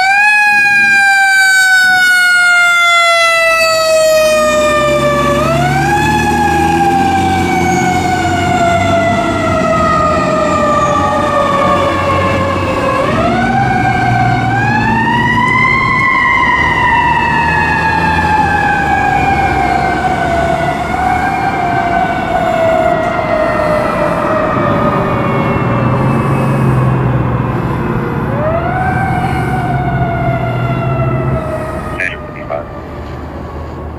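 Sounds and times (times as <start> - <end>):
fire engine siren: 0.0 - 33.9
truck engine rumbling: 0.0 - 33.9.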